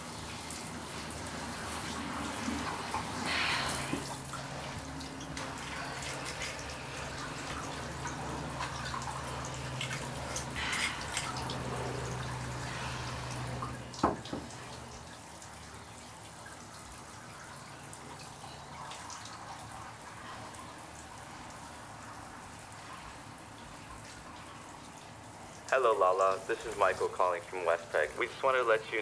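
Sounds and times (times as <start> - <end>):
low steady hum: 0.0 - 29.0
water dripping in a bathtub: 0.0 - 29.0.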